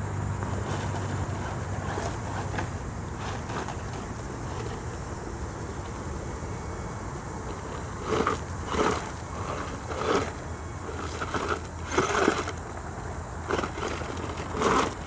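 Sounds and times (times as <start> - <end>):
tyres crunching over dirt: 0.0 - 15.0.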